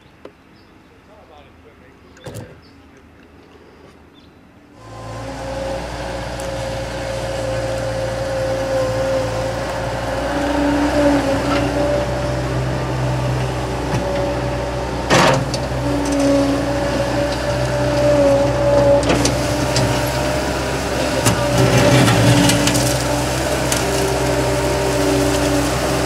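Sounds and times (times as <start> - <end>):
loader engine hum and whine: 1.5 - 26.0.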